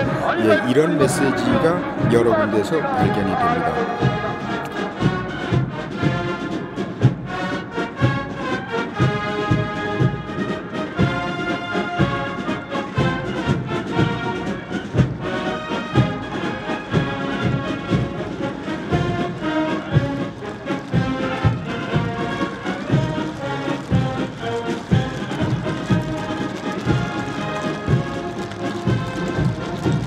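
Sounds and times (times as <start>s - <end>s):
brass band playing a march: 0.0s - 30.0s.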